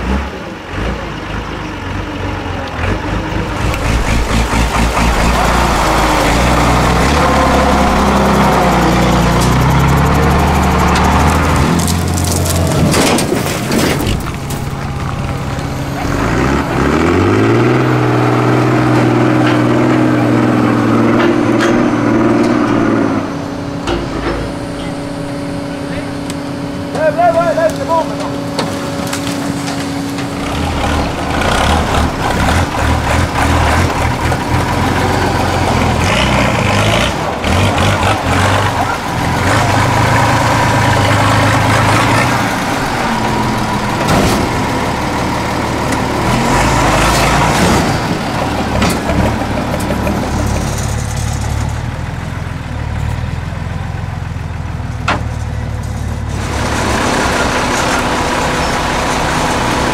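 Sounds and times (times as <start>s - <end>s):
truck diesel engines revving: 0.0s - 59.9s.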